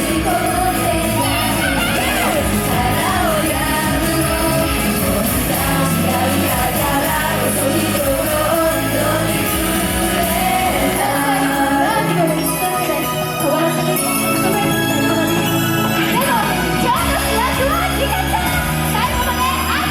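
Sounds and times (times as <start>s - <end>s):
live pop band with singing: 0.0s - 19.9s.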